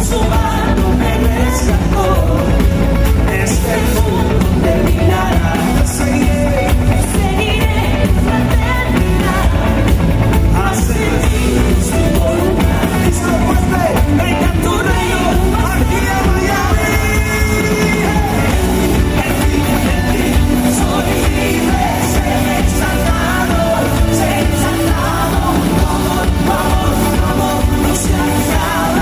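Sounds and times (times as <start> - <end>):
drums: 0.0 - 29.0
electric guitar: 0.0 - 29.0
singers singing together: 0.0 - 29.0.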